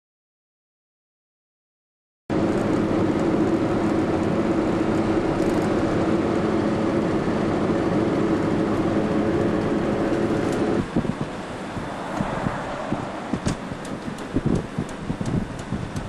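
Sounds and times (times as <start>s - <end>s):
car engine hum: 2.3s - 16.0s
road and tyre noise: 2.3s - 16.0s.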